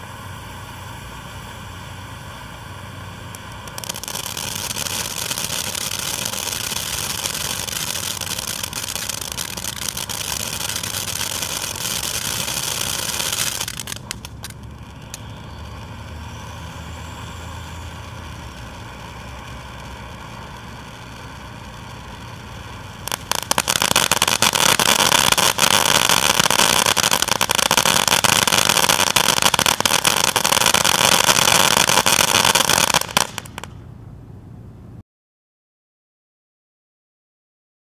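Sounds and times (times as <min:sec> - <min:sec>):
fireworks fountain hissing and crackling: 0:00.0 - 0:33.9.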